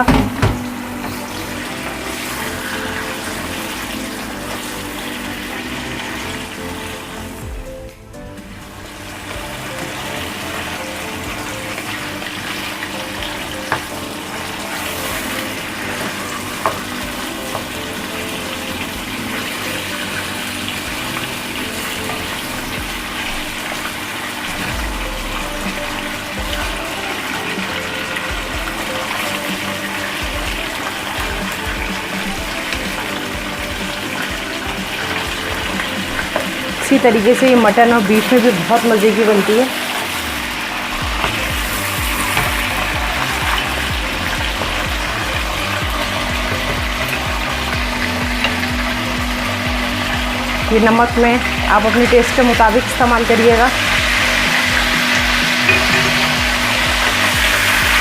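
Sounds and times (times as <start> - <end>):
food sizzling in hot oil: 0.0 - 58.0
quiet background music: 0.0 - 58.0.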